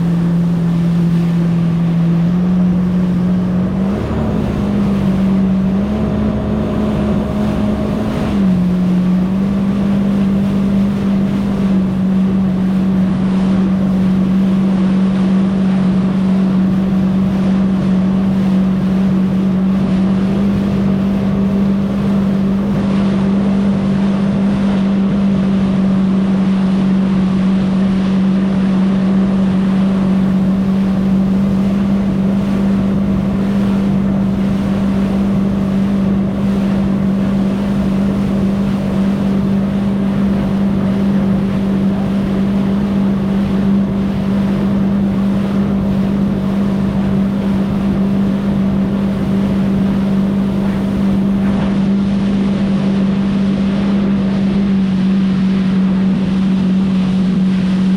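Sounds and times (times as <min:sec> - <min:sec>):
jet ski engine droning: 0:00.0 - 0:57.9.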